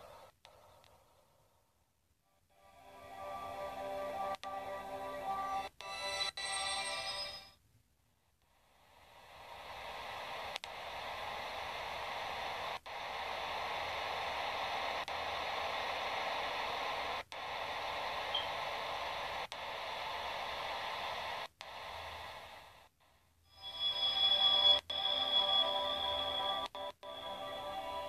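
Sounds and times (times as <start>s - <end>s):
static-like hiss: 0.0s - 28.0s.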